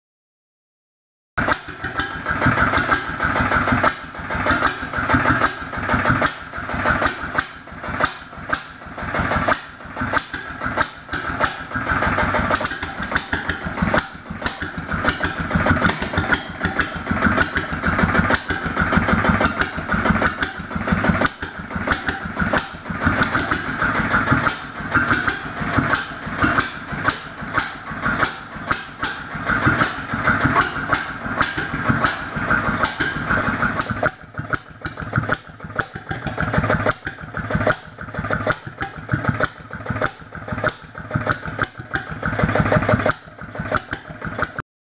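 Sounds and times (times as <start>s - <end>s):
stationary engine exhaust beats: 1.4s - 44.6s.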